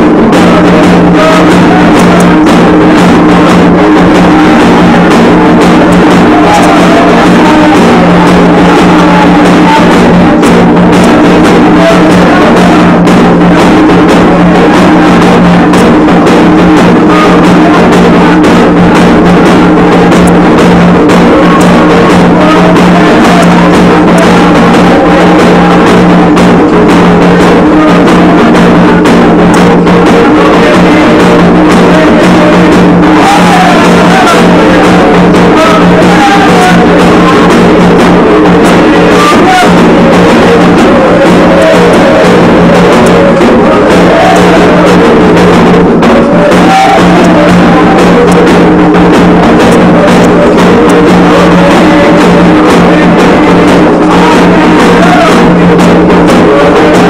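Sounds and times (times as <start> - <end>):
drums: 0.0 - 57.0
people singing: 0.0 - 57.0.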